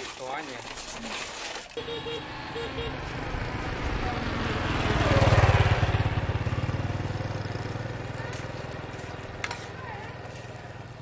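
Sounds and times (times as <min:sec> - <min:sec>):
motorcycle engine passing: 0:01.8 - 0:11.0.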